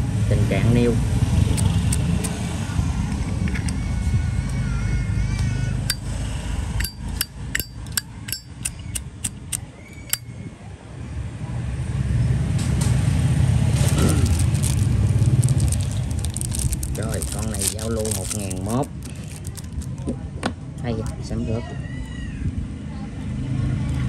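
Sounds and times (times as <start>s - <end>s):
passing street traffic rumble: 0.0s - 24.0s.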